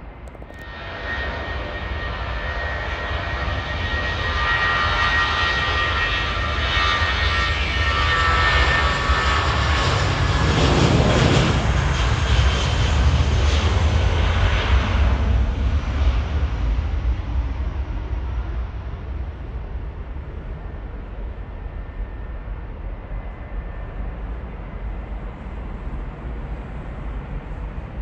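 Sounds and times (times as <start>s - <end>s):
high engine whine: 0.0s - 28.0s
jet engines rumbling: 0.0s - 28.0s.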